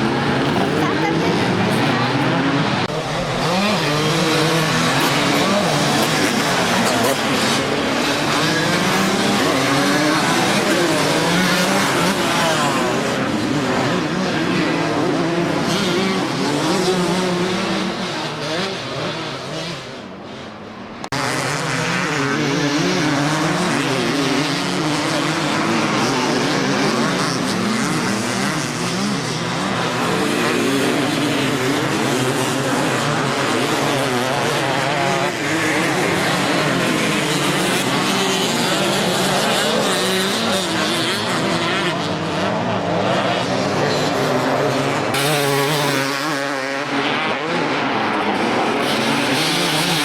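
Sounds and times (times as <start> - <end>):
motocross bike engines revving: 0.0 - 50.0.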